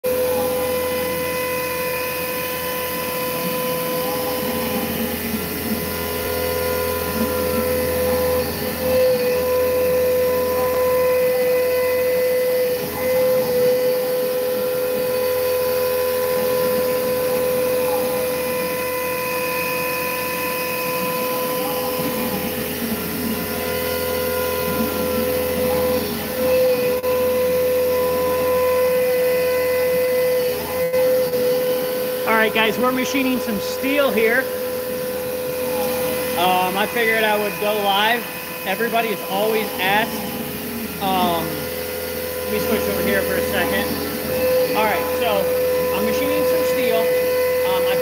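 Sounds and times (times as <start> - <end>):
metal cutting noise: 0.0 - 48.0
mill spindle whine: 0.0 - 48.0.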